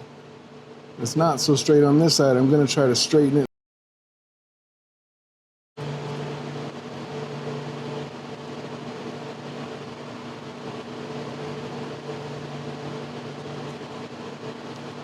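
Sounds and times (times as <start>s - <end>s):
mechanical hum: 0.0s - 3.5s, 5.8s - 15.0s.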